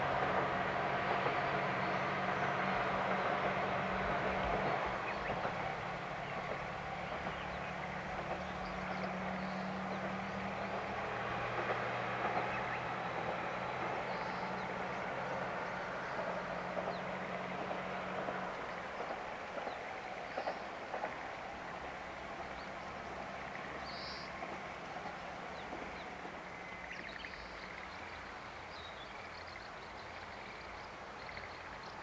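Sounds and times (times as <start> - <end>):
railcar engine drone: 0.0 - 32.0.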